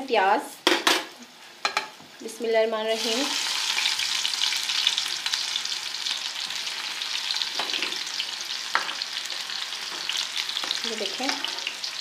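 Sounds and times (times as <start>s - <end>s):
onion sizzling in hot fat: 1.1s - 12.0s.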